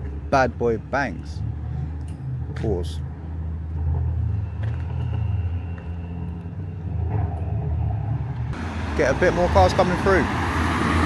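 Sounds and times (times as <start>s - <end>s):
car engine rumbling at low revs: 0.0s - 11.0s.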